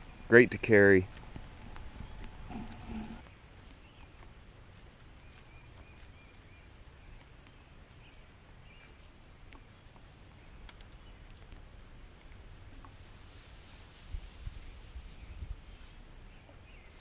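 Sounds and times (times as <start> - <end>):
low wind rumble: 0.0 - 4.6, 6.5 - 17.0.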